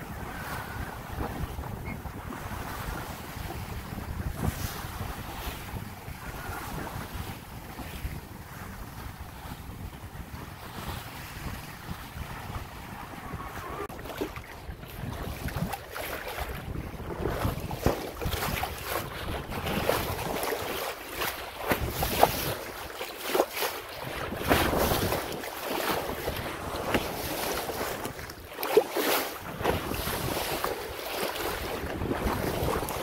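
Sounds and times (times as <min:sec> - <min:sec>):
wind buffeting microphone: 0:00.0 - 0:23.0, 0:23.9 - 0:28.6, 0:29.2 - 0:33.0
water rushing along hull: 0:00.0 - 0:33.0.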